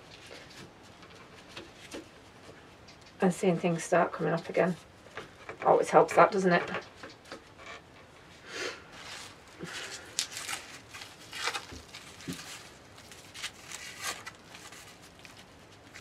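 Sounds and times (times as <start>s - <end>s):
dry onion skins rustling: 0.0s - 16.0s.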